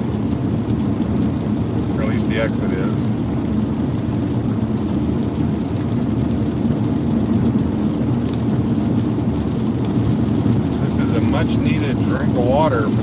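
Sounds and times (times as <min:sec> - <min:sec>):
tyres rumbling on wet road: 0:00.0 - 0:13.0.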